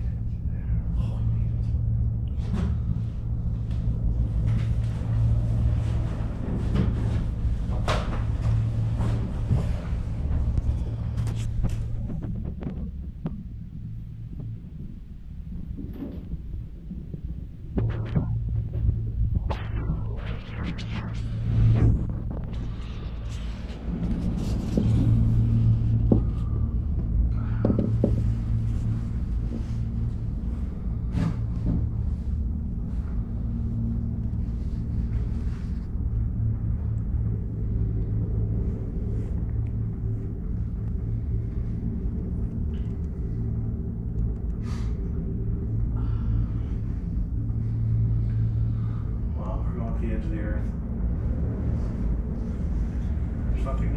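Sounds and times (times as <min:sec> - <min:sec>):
gondola cabin rumbling and humming: 0:00.0 - 0:53.9.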